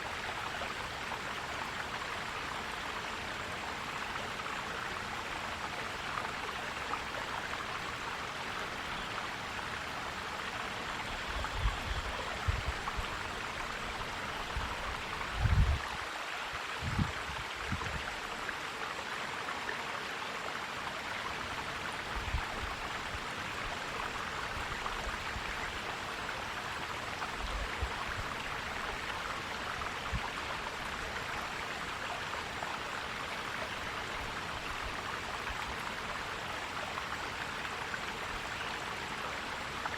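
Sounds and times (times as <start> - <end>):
mountain stream gurgling: 0.0 - 39.9.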